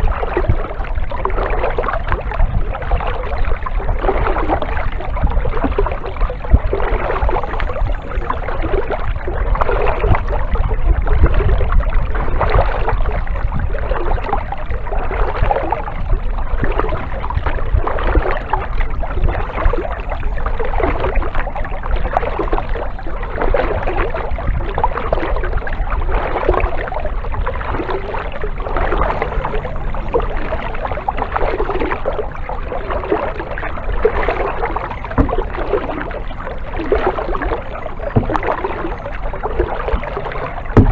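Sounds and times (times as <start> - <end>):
paddle strokes splashing in water: 0.0 - 40.9
steady low rumble: 0.0 - 40.9.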